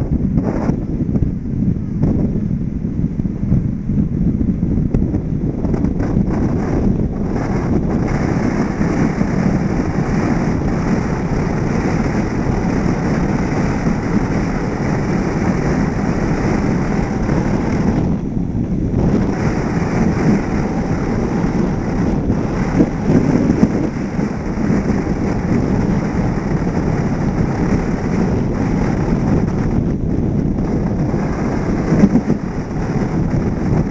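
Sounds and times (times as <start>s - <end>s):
car road noise: 0.0s - 33.9s
wind rushing over microphone: 0.0s - 33.9s.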